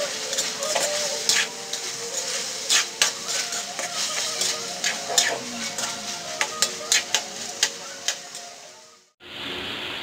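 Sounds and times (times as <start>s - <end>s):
utensil stirring in a pot: 0.0s - 8.5s.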